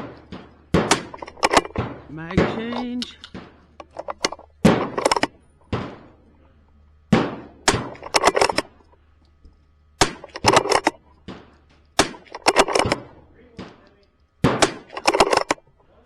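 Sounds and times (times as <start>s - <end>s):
rifle shots echoing: 0.0s - 8.9s, 10.0s - 15.7s.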